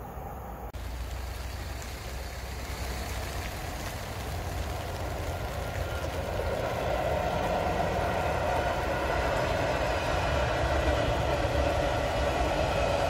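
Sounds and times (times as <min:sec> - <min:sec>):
high-speed train passing: 0:00.0 - 0:13.0.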